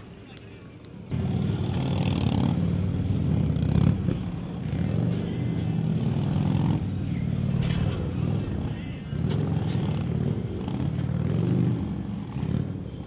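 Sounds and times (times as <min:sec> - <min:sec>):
motorcycle engines at low speed: 0:00.8 - 0:13.0.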